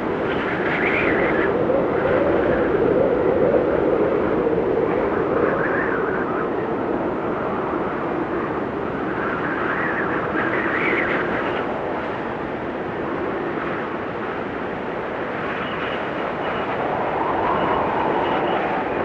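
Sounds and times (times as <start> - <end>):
howling blizzard wind: 0.0 - 19.0.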